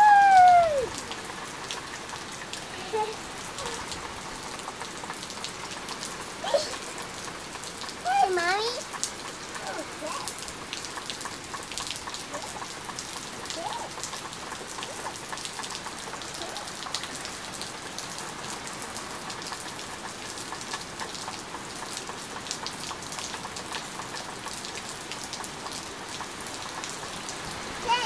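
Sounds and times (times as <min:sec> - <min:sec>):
raindrops ticking: 0:00.0 - 0:28.0
steady rain: 0:00.0 - 0:28.0.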